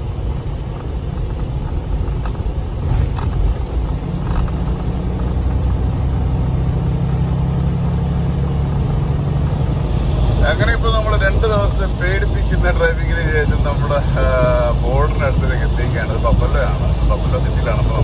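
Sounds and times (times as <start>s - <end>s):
steady low hum: 0.0s - 18.0s
truck engine and road rumble: 0.0s - 18.0s.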